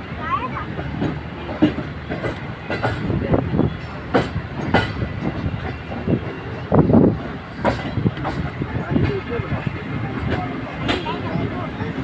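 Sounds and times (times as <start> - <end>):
train wheels clattering over rail joints: 0.1 - 12.0.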